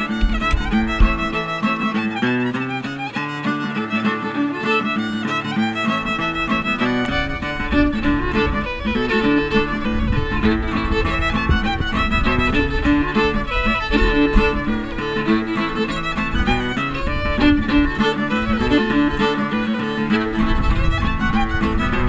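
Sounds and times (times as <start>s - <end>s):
folk tune on violin: 0.0s - 22.0s.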